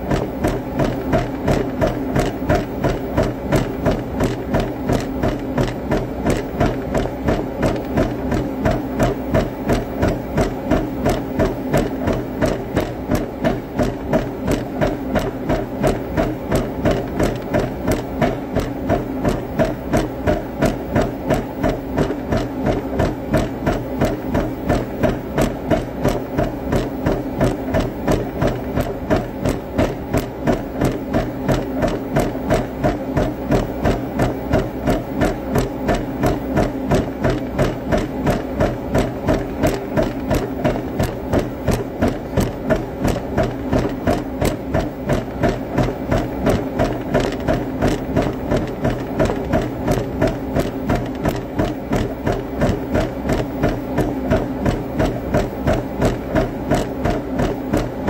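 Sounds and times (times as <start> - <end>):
rhythmic workout thumping: 0.0 - 58.0.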